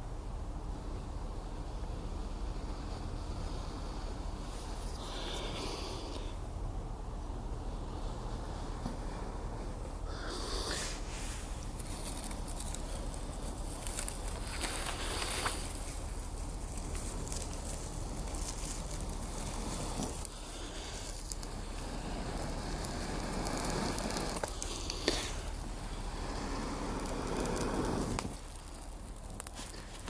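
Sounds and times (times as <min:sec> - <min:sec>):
small fire crackling: 0:00.0 - 0:30.0
steady hiss: 0:00.0 - 0:30.0
fire popping: 0:00.8 - 0:30.0.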